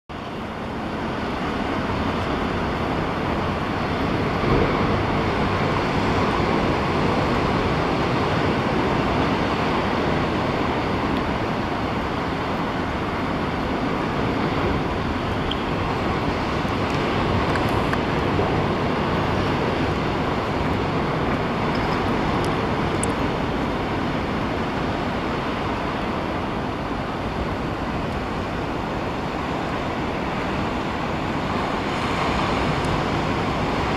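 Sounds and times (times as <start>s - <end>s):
distant ocean surf: 0.1s - 33.9s
wind on microphone: 0.1s - 33.9s.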